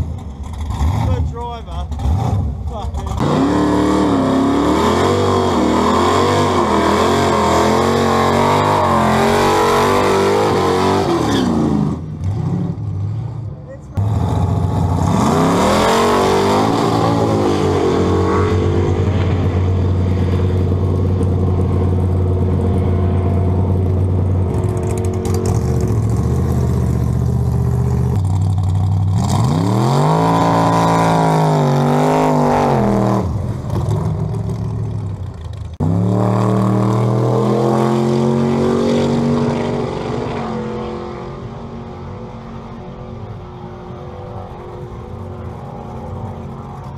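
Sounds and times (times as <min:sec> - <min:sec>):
drag race car engines revving: 0:00.0 - 0:46.9.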